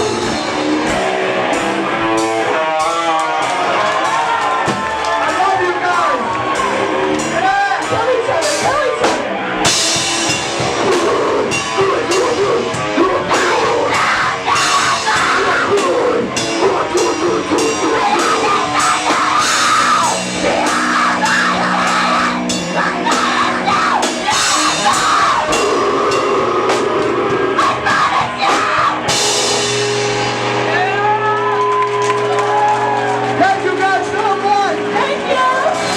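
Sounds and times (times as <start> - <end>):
live rock band playing: 0.0 - 35.9.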